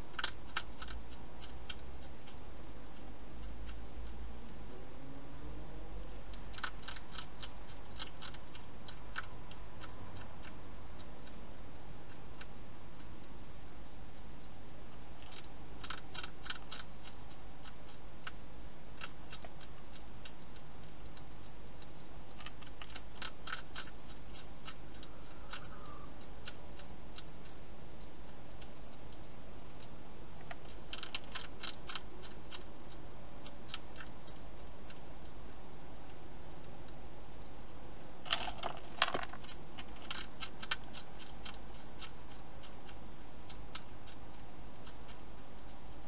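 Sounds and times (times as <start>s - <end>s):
hedgehog crunching food: 0.0s - 5.2s, 6.2s - 46.0s
steady low hum: 0.0s - 46.0s.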